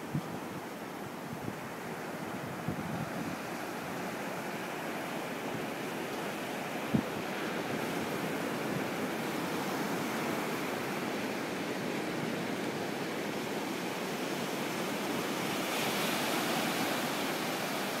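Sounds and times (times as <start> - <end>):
surf washing up a sandy beach: 0.0 - 18.0.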